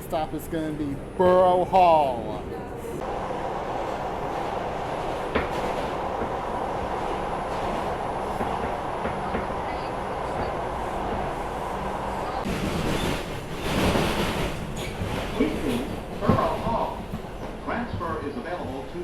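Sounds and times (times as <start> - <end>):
subway car wheels rumbling on rail: 0.0 - 19.0
rail clicks: 3.6 - 19.0.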